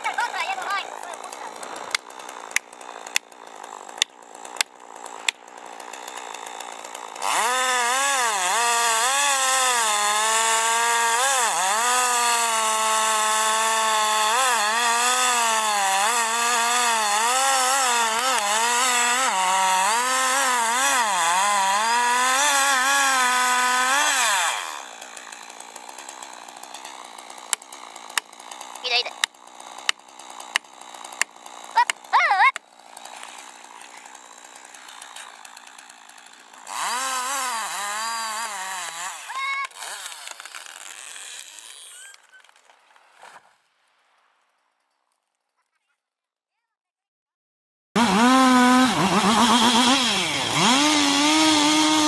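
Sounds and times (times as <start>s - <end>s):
chainsaw cutting trunk: 0.0s - 43.6s, 48.0s - 52.0s.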